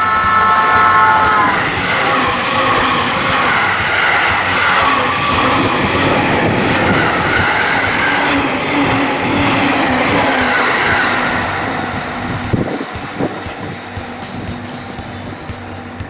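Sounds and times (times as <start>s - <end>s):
clacks over rail joints: 0.0s - 16.0s
train wheels rushing on rail: 0.0s - 16.0s.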